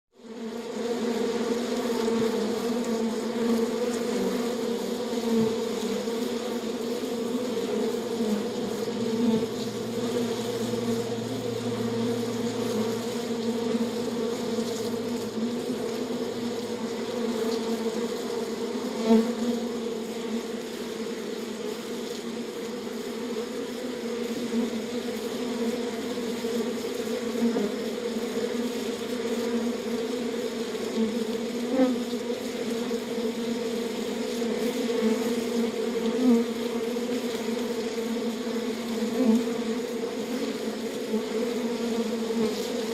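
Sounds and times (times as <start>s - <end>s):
bees buzzing: 0.2s - 42.9s.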